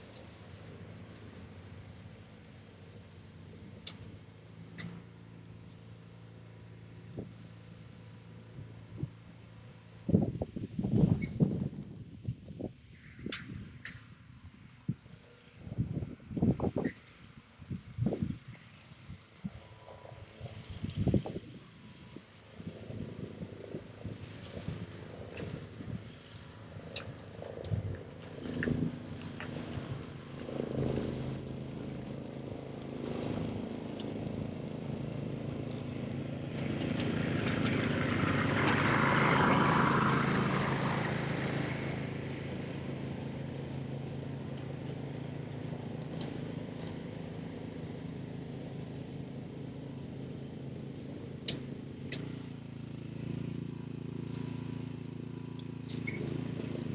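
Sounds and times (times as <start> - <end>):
snow blower running: 0.0 - 56.9.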